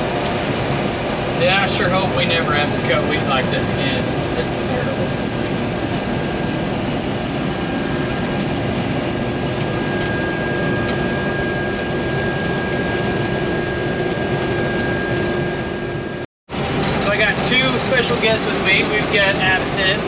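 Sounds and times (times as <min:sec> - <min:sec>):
combine harvester drone: 0:00.0 - 0:20.0
steady machine whine: 0:00.0 - 0:20.0.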